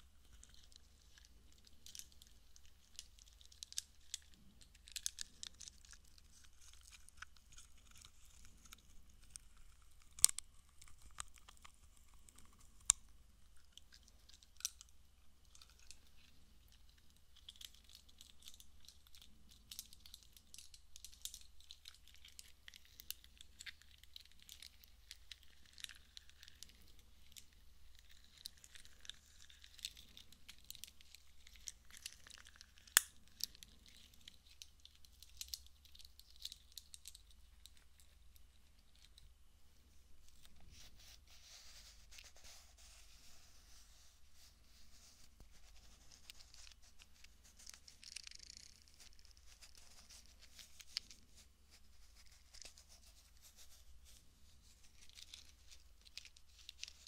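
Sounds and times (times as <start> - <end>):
crinkly crackling and rustling: 0.0 - 57.0.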